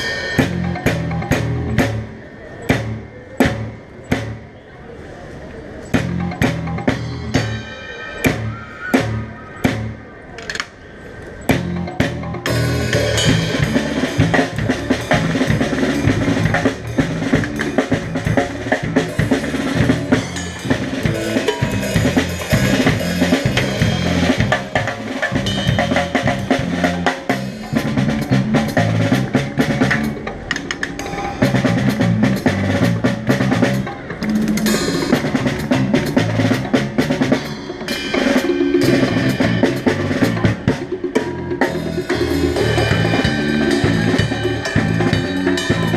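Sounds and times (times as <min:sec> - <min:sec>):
drum kit playing: 0:00.0 - 0:04.6, 0:05.9 - 0:10.2, 0:11.4 - 0:45.9
low bass notes: 0:00.0 - 0:04.6, 0:05.8 - 0:10.1, 0:11.4 - 0:45.9.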